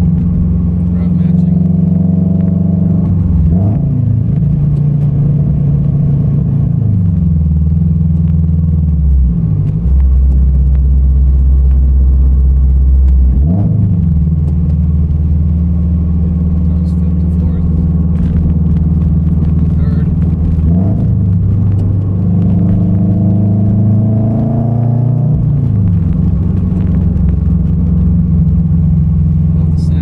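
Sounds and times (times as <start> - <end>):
loud car engine from cabin: 0.0 - 30.0.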